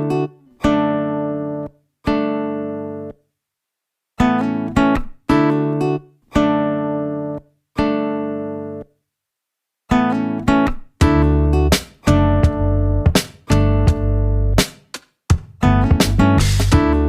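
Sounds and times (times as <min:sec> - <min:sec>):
acoustic guitar chords: 0:00.0 - 0:03.2, 0:04.2 - 0:09.0, 0:09.9 - 0:17.0.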